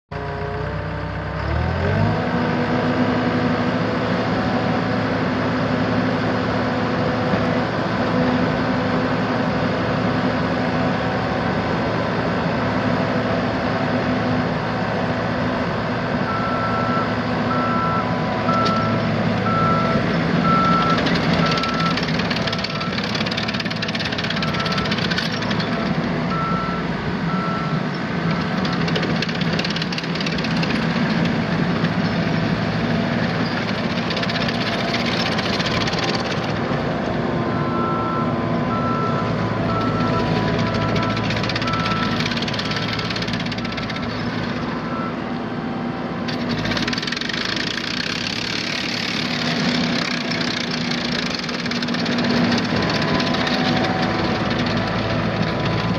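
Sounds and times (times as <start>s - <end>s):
diesel engine running: 0.1s - 55.9s.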